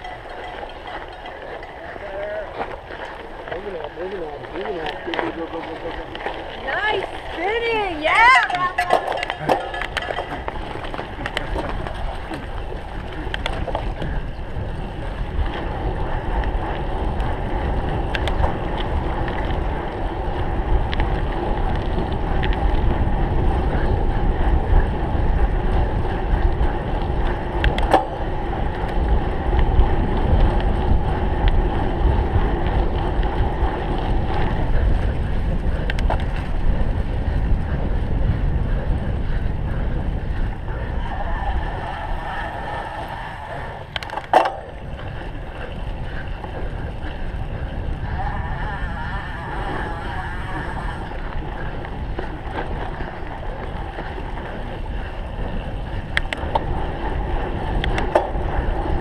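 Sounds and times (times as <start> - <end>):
hum of moving bike: 0.0 - 59.0
wind rushing over microphone: 0.0 - 59.0.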